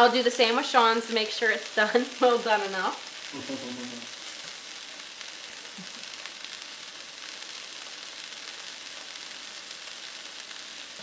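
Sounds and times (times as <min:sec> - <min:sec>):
fish searing in a frying pan: 0:00.0 - 0:11.0.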